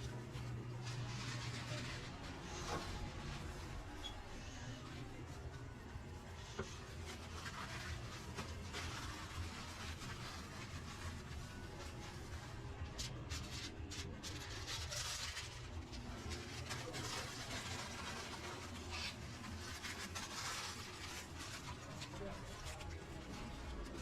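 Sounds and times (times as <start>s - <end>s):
rustling of food packaging: 0.0s - 24.0s.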